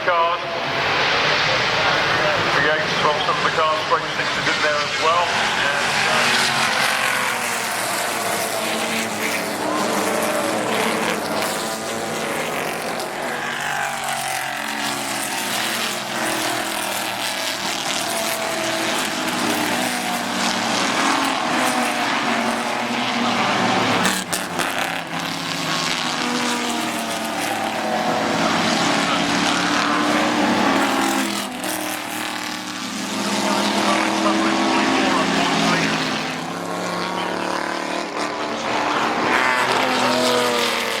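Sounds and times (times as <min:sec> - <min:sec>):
racing cars accelerating past: 0:00.4 - 0:41.0.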